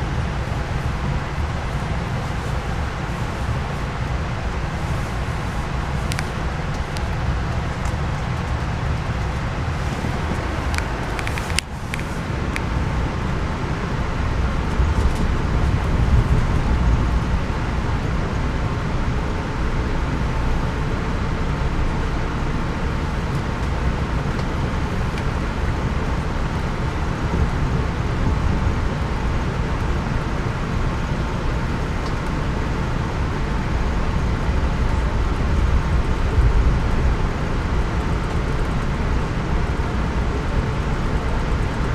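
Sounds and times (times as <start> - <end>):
train car rumbling: 0.0 - 41.9.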